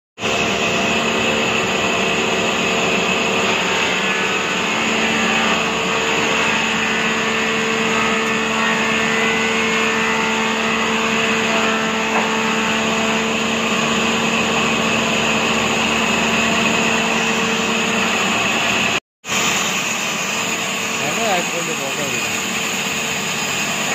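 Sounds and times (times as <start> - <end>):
bandsaw machine humming: 0.2 - 23.9.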